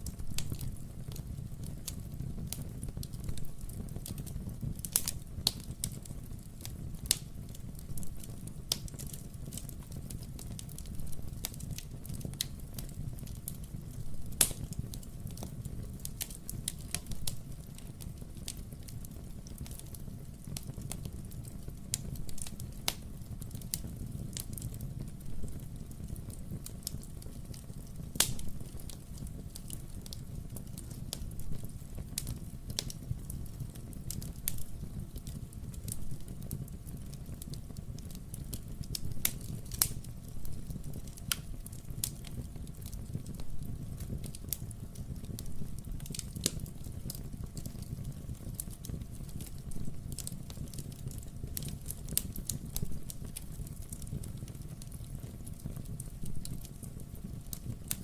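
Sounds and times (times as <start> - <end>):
burning logs popping: 0.0 - 58.0
fireplace crackling: 0.0 - 58.0
low rumble of flame: 0.0 - 58.0.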